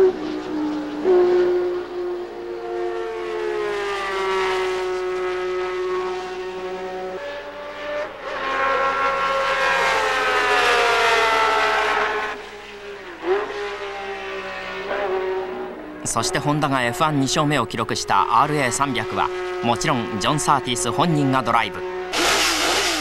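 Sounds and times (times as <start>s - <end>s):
racing engine howling: 0.0s - 23.0s.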